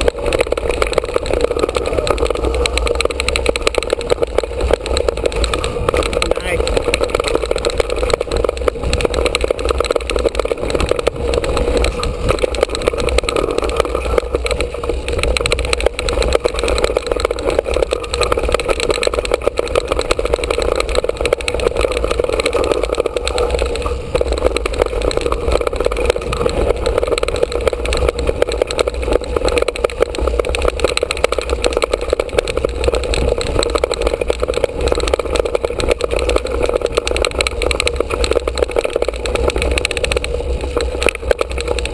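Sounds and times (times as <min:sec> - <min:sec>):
bike frame vibration: 0:00.0 - 0:41.9
tyres rumbling on dirt: 0:00.0 - 0:41.9
wind on microphone: 0:00.0 - 0:41.9.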